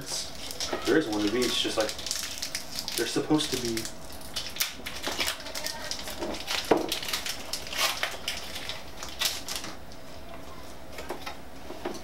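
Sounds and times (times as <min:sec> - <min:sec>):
foil wrappers crinkling: 0:00.0 - 0:10.0.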